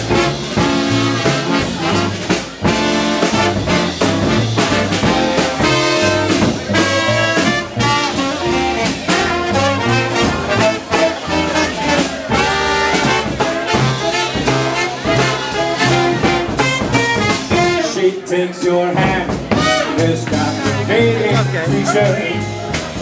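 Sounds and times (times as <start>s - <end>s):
brass horns holding chords: 0.0s - 18.0s, 19.4s - 23.0s
drums: 0.0s - 23.0s
walking bass line: 0.0s - 23.0s.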